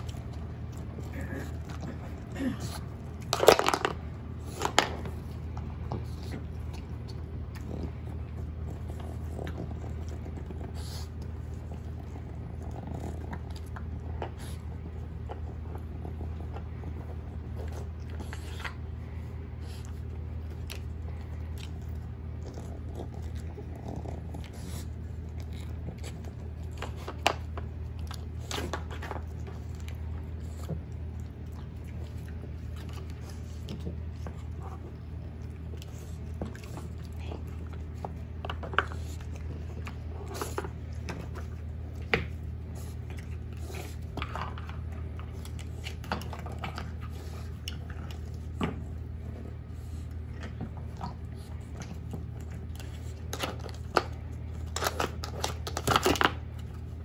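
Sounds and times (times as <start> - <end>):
dog chewing treats: 0.0 - 57.0.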